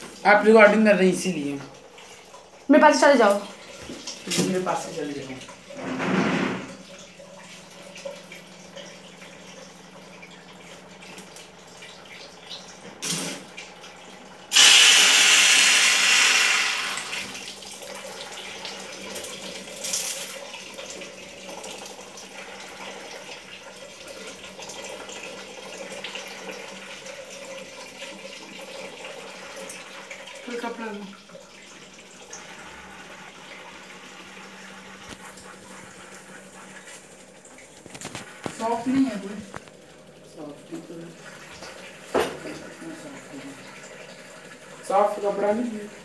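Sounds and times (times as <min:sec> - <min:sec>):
water running: 0:00.0 - 0:46.0.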